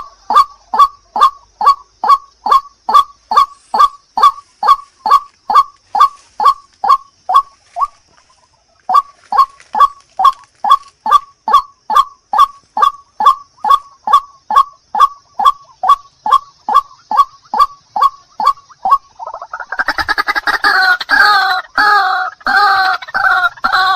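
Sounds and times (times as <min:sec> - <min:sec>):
waterhen harsh calls: 0:00.0 - 0:08.0, 0:08.9 - 0:23.9.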